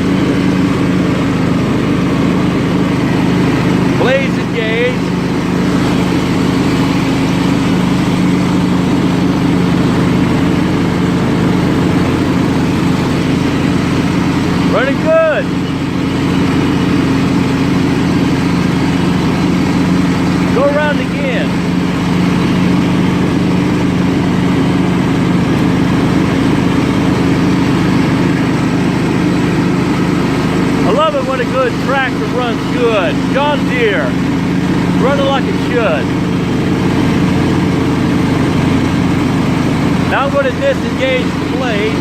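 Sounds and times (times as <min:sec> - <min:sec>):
lawn tractor engine running: 0:00.0 - 0:42.0.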